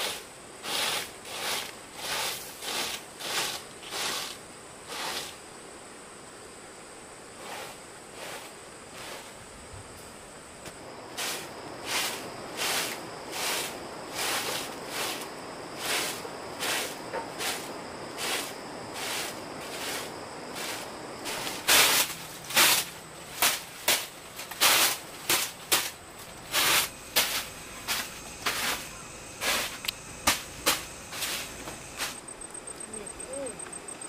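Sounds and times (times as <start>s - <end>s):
rustling scraping strokes: 0.0s - 5.4s, 7.4s - 9.4s, 11.1s - 32.3s
high insect drone: 0.0s - 34.0s.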